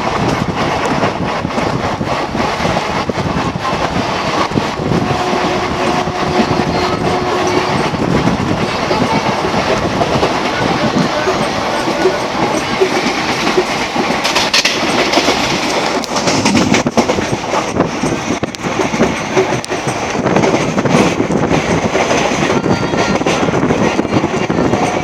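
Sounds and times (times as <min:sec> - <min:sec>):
rail joint clicks: 0:00.0 - 0:25.0
train wheels rumbling on rail: 0:00.0 - 0:25.0.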